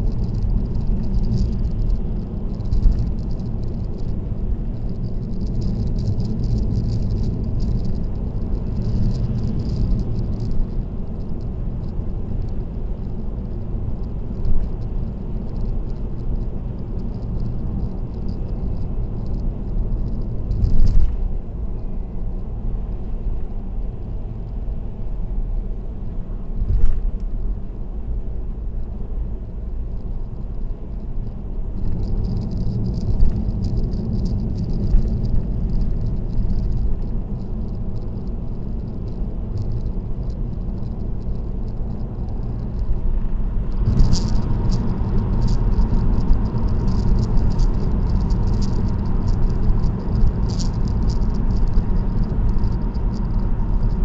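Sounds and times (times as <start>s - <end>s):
light clicking rattle: 0.0s - 21.2s, 29.9s - 54.0s
faint steady whine: 0.0s - 54.0s
tyre and road rumble: 0.0s - 54.0s.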